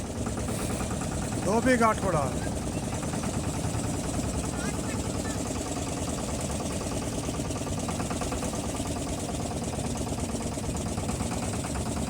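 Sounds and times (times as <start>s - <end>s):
motorboat engine chugging: 0.0s - 12.0s.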